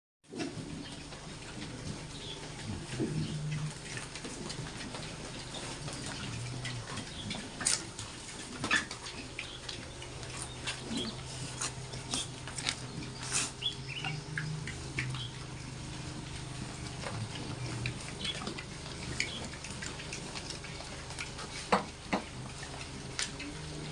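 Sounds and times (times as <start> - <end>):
pigs squeaking: 0.3 - 23.9
steady low hum: 0.4 - 23.9.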